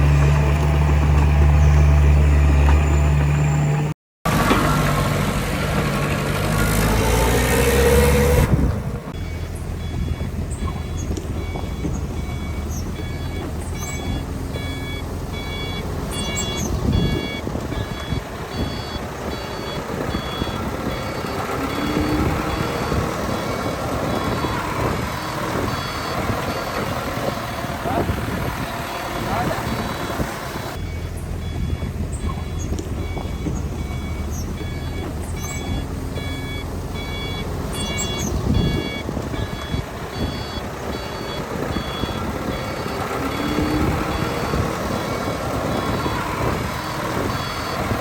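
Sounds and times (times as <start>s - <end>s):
heavy diesel machinery running: 0.0s - 48.0s
reversing alarm beeping: 9.1s - 48.0s.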